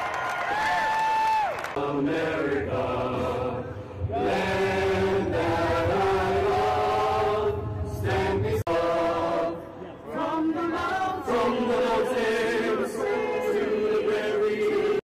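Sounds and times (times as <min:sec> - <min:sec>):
choir singing long notes: 0:01.7 - 0:15.0.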